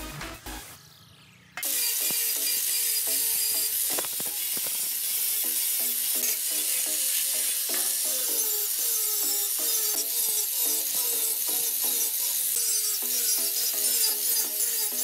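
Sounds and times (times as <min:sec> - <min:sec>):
angle grinder grinding metal: 0:01.6 - 0:15.0.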